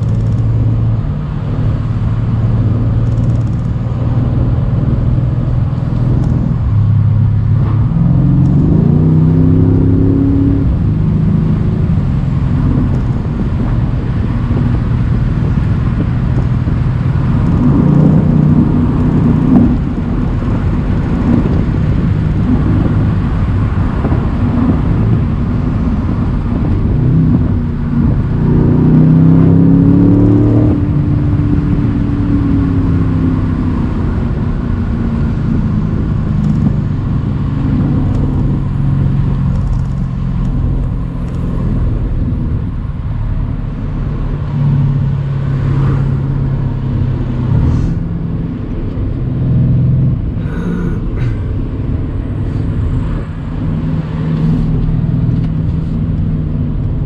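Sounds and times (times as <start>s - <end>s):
car engine cruising: 0.0s - 57.0s
wind and road noise: 0.0s - 57.0s.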